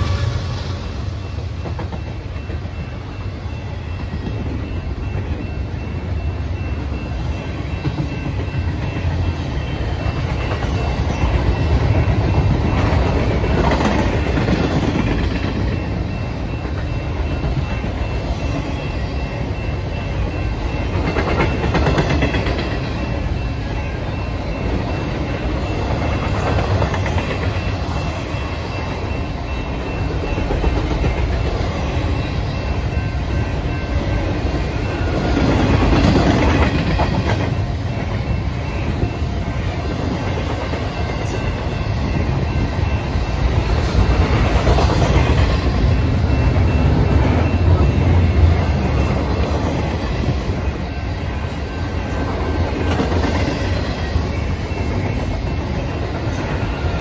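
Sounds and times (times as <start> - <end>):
freight train wheels rumbling: 0.0 - 57.0
wheels clickety-clack: 1.5 - 50.8, 52.0 - 57.0.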